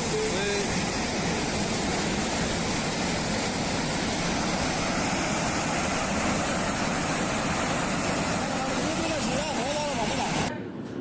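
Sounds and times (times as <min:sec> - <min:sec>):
rush of turbulent water: 0:00.0 - 0:10.5.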